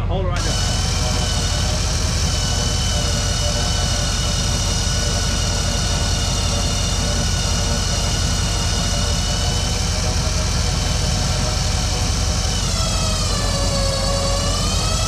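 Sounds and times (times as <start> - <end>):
truck engine idling: 0.0 - 15.0
winch whining: 0.0 - 15.0.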